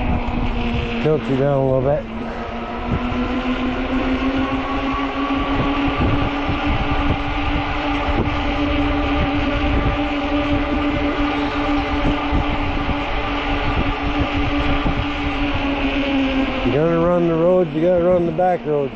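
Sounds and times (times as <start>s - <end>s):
electric motor whining: 0.0s - 18.9s
wind rumbling on microphone: 0.0s - 18.9s.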